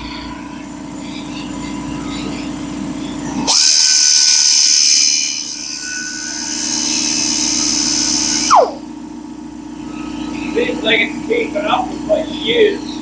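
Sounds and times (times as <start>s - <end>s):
air compressor pump running: 0.0s - 13.0s
air die grinder whining: 1.6s - 13.0s.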